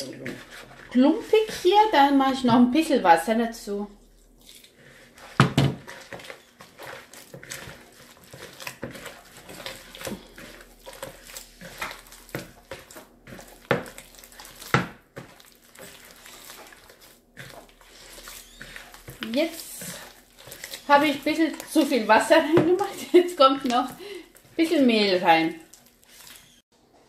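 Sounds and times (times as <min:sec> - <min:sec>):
hands kneading wet dough: 0:00.0 - 0:26.9.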